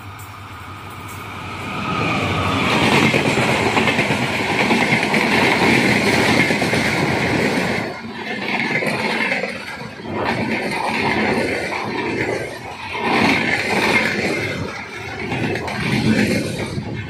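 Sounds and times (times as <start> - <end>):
train wheels rattling on rails: 0.0 - 17.0.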